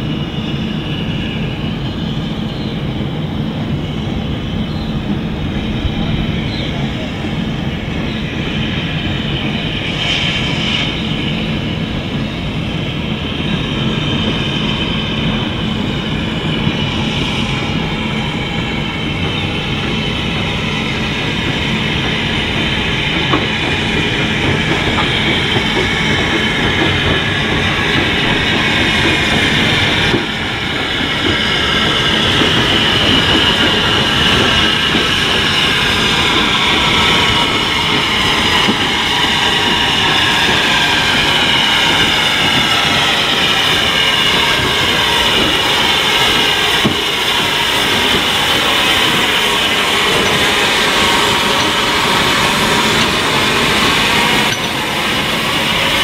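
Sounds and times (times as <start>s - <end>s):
high wheel squeal: 0.0s - 56.0s
train rumbling on track: 0.0s - 56.0s.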